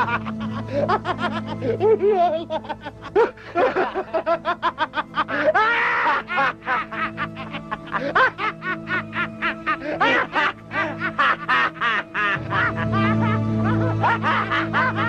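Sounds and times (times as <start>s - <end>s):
background music: 0.0s - 15.0s
person laughing: 0.0s - 15.0s.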